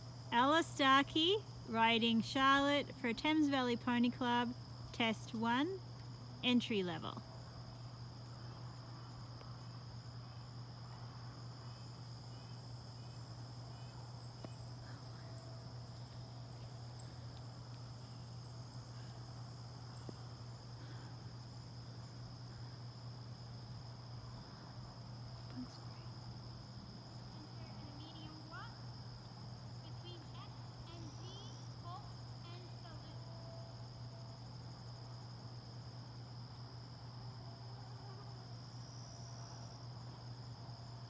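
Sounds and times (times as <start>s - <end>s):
crickets chirring: 0.0s - 41.0s
low steady hum: 0.0s - 41.0s
thin buzzing insect chorus: 0.0s - 41.0s.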